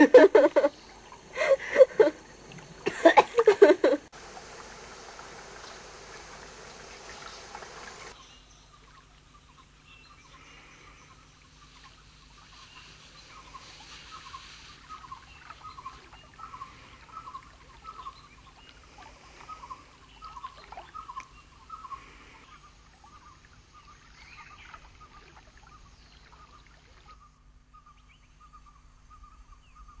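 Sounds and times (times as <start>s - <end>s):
running water hiss: 0.0s - 27.3s
faint high hiss: 0.0s - 30.0s.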